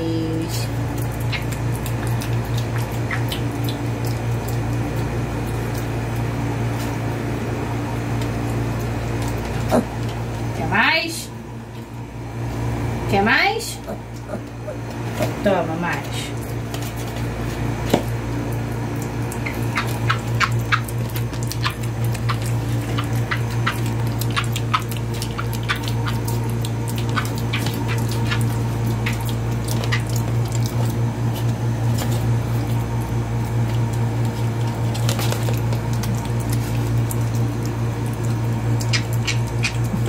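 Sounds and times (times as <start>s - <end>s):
piglet chewing and smacking: 0.0s - 10.7s, 13.8s - 40.0s.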